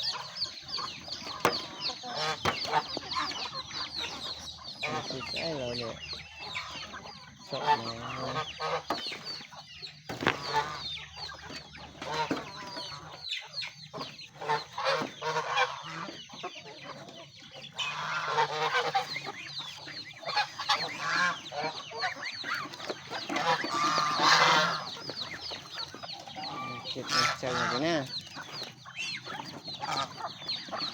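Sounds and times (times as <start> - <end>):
chickens clucking: 0.0 - 30.9
geese honking: 0.0 - 30.9.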